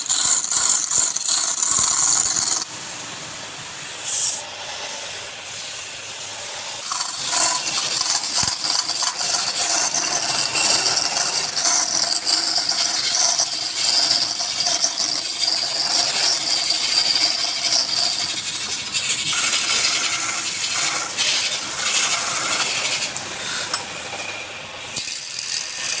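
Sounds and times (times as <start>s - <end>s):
wood lathe turning tool scraping: 0.0s - 2.7s, 6.7s - 26.0s.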